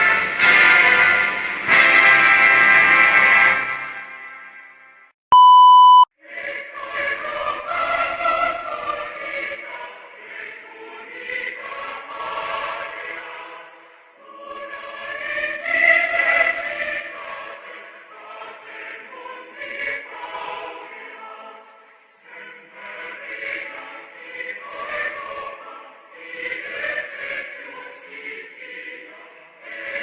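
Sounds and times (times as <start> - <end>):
choir singing an anthem: 0.0 - 4.6, 6.2 - 30.0.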